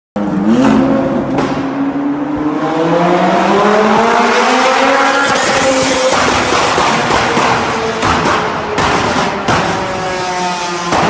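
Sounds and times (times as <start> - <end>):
car engine accelerating: 0.2 - 11.0.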